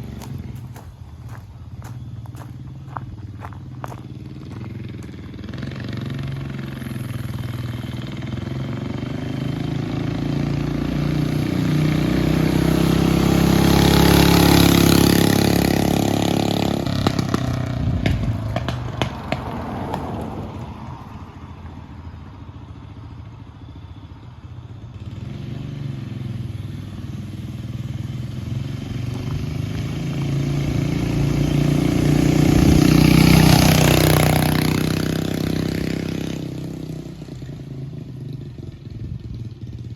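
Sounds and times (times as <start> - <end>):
mini bike engine passing by: 0.0 - 39.9.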